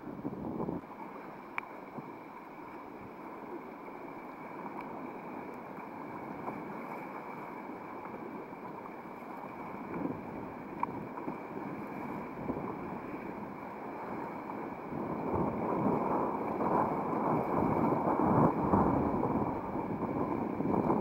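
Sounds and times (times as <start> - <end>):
wind on microphone: 0.0 - 0.9, 4.4 - 21.0
sea water rushing and churning: 0.0 - 21.0.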